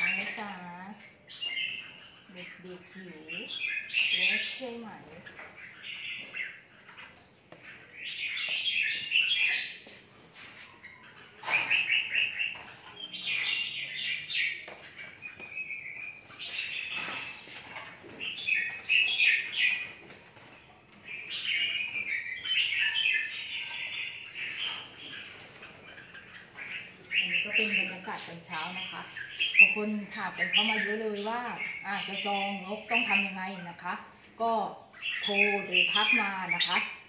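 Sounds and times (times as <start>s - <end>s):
caged songbirds chirping: 0.0s - 37.0s.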